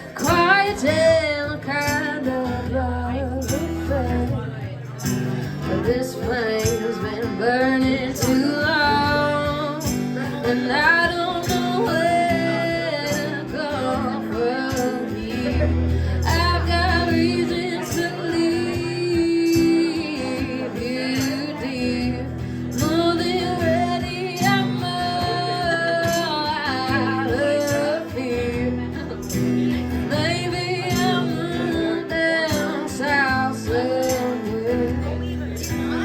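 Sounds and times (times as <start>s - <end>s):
woman singing: 0.0s - 5.0s, 5.6s - 36.0s
guitar accompaniment: 0.0s - 36.0s.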